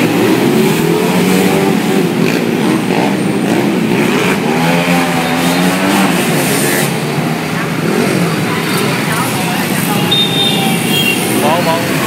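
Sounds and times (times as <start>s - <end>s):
motorbike engines revving: 0.0s - 12.0s.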